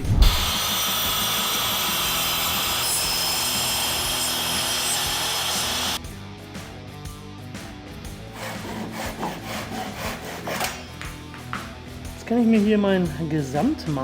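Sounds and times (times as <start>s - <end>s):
background music: 0.3s - 14.0s.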